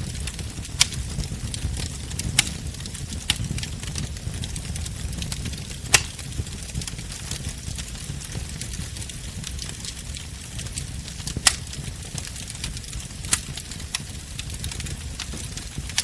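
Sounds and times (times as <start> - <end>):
bonfire crackling: 0.0 - 16.0
sharp fire pops: 0.0 - 16.0.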